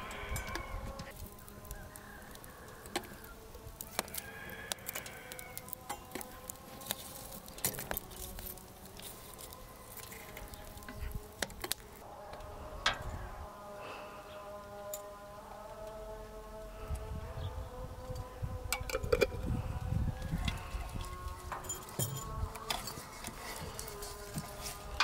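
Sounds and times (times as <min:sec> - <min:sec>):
fire crackling in a stove: 0:00.0 - 0:25.0.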